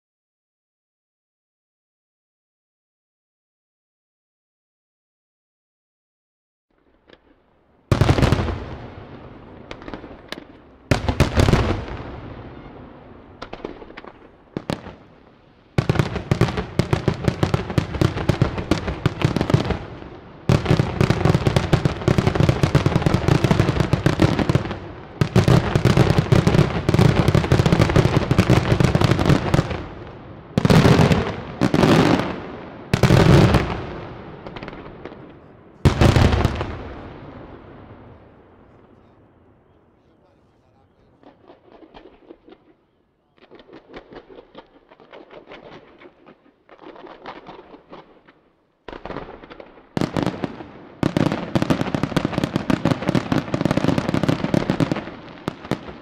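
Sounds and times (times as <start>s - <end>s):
firework crackle: 6.8s - 38.3s, 41.2s - 56.0s.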